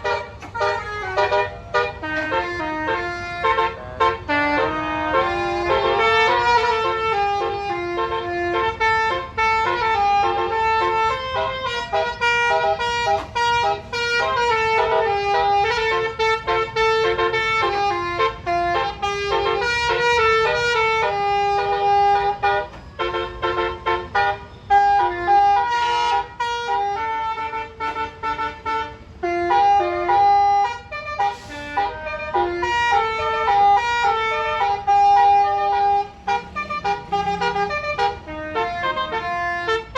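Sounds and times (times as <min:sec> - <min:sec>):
bus air horns playing melody: 0:00.0 - 0:39.9.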